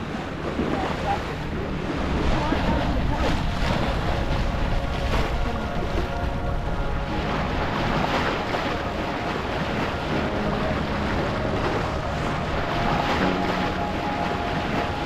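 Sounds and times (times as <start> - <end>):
water rushing along boat hull: 0.0 - 15.0
wind buffeting microphone: 0.0 - 15.0.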